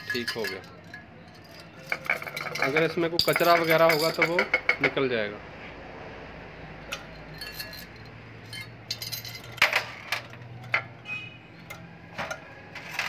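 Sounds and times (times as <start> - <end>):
metal parts clinking: 0.0 - 4.9, 6.8 - 13.0.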